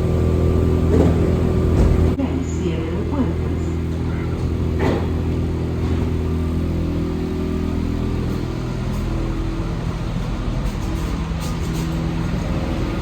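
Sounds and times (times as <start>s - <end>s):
metro train drone: 0.0s - 13.0s
train doors closing: 0.0s - 13.0s.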